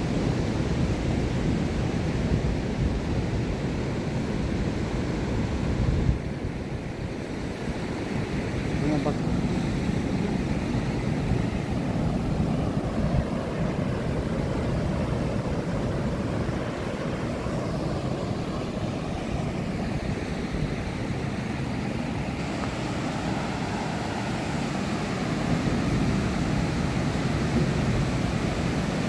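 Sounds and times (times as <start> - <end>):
surf breaking on beach: 0.0 - 29.0
wind on microphone: 0.0 - 29.0.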